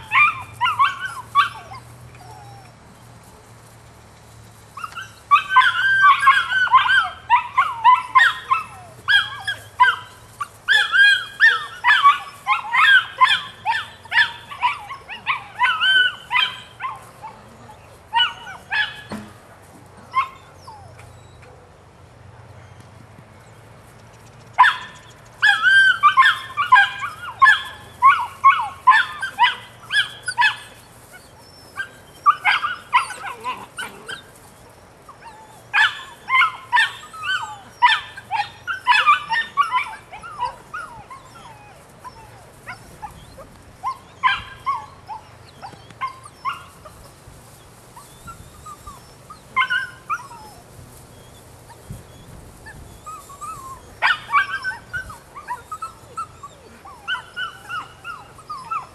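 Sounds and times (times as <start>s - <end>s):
puppy yipping and whining: 0.0s - 2.8s, 4.8s - 19.4s, 20.0s - 21.6s, 24.6s - 58.9s.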